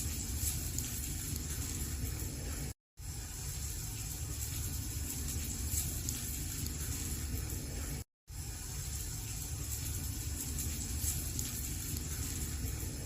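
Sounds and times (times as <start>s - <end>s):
fire crackling: 0.0s - 13.0s
fire rumbling and hissing: 0.0s - 13.0s.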